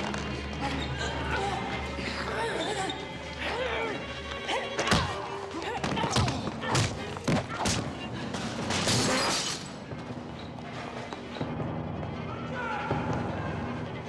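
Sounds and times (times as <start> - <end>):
background score music: 0.0 - 14.0.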